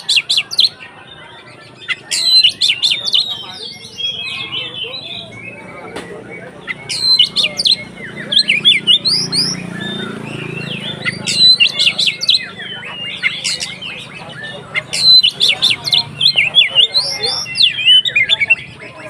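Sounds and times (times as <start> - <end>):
songbird whistles and chirps: 0.0 - 18.9.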